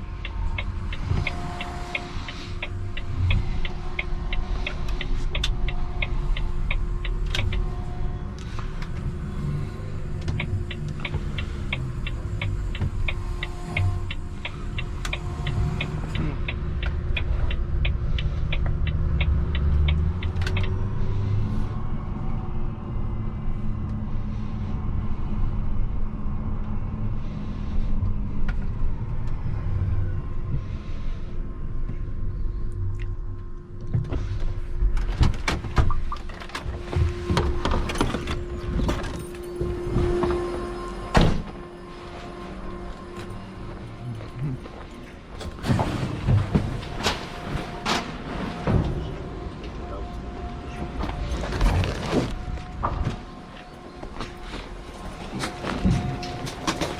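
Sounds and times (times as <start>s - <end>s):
truck diesel engine rumbling: 0.0s - 25.2s, 34.2s - 56.9s.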